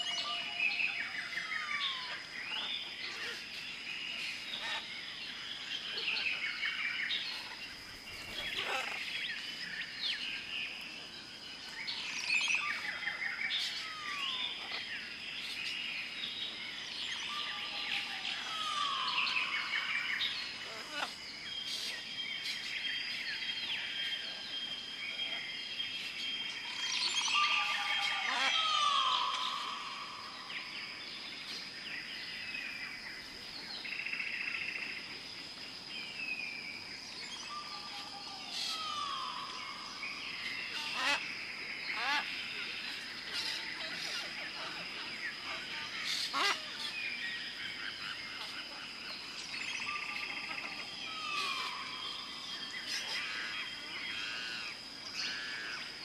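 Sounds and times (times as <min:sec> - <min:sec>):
birds calling and chirping: 0:00.0 - 0:56.0
insect drone: 0:00.0 - 0:56.0.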